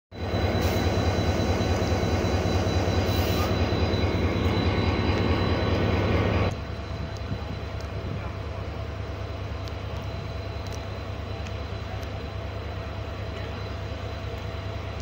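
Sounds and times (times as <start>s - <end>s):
diesel locomotive engine drone: 0.1s - 15.0s
passenger coaches rolling past: 0.1s - 15.0s.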